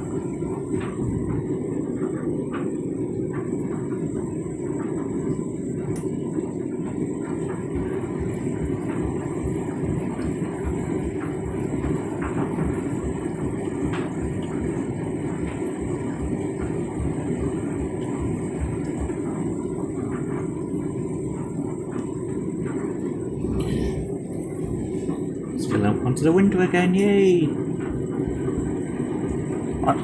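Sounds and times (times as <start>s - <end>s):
washing machine churning rumble: 0.0s - 30.0s.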